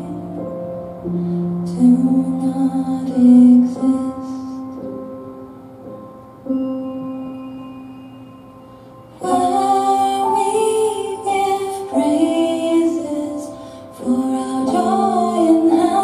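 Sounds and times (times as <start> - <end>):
slow gentle music: 0.0 - 16.0.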